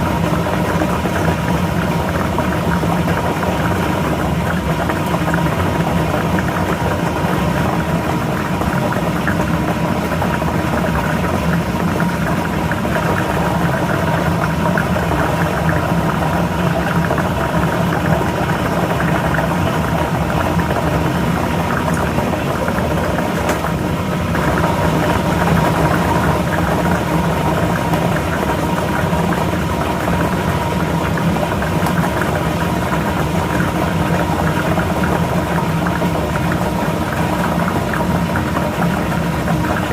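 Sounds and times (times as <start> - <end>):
blower motor humming: 0.0 - 39.9.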